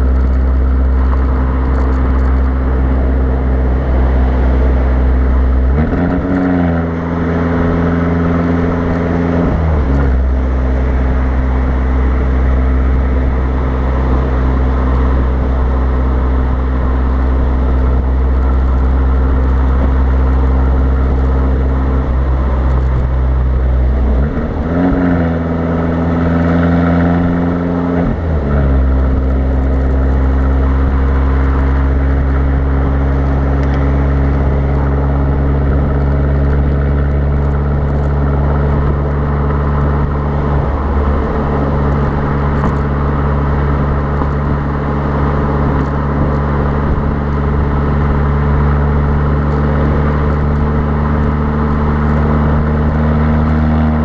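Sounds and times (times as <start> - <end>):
car engine and exhaust drone: 0.0 - 54.0
wind noise on microphone: 0.0 - 54.0.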